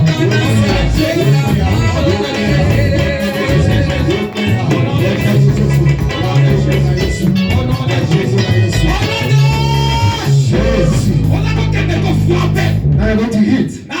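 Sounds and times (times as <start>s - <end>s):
band music with guitar and bass: 0.0s - 14.0s.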